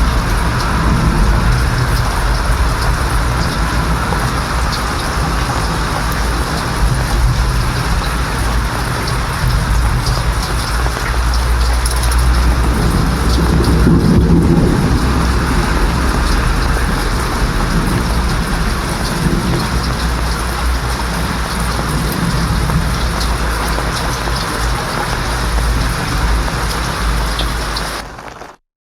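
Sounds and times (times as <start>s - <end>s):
thunder rumbling: 0.0s - 28.5s
heavy rain: 0.0s - 28.6s.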